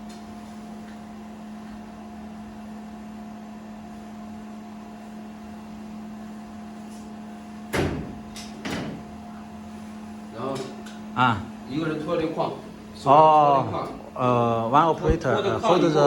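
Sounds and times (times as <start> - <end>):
steady equipment hum: 0.0 - 16.0.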